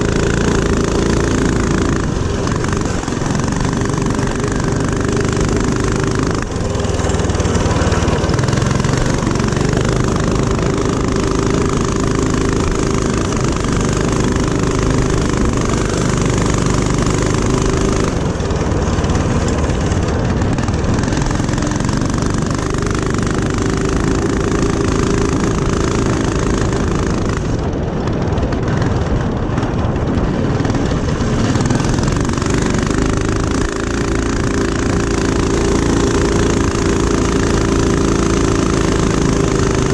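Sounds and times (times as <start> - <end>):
mini-bike engine running: 0.0 - 39.9.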